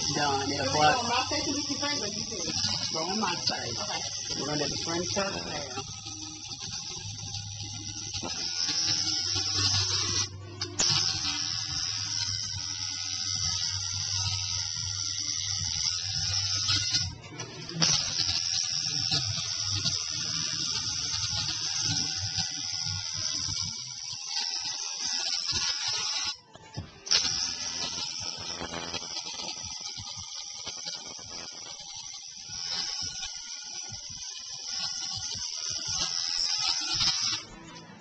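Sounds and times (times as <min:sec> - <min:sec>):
tattoo machine buzzing: 0:00.0 - 0:38.0.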